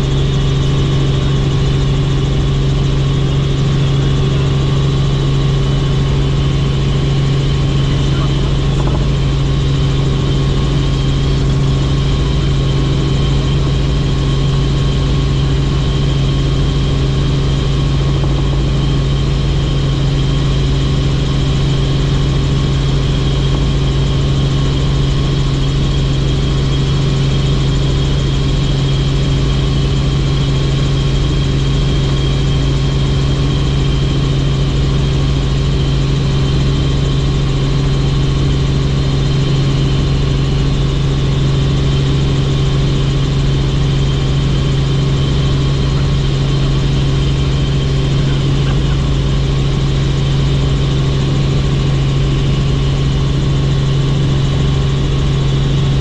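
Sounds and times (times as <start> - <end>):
helicopter engine and rotors droning: 0.0 - 56.0.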